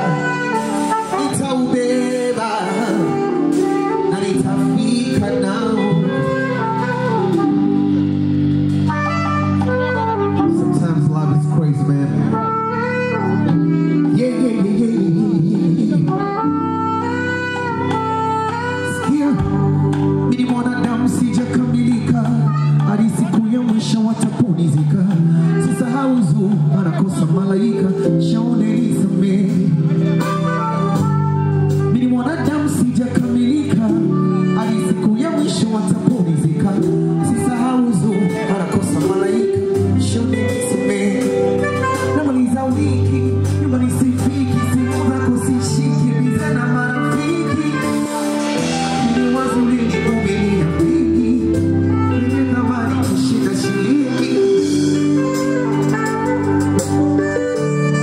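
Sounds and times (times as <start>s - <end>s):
keyboard chords: 0.0s - 58.0s
live band playing instrumental: 0.0s - 58.0s
person singing: 0.0s - 58.0s.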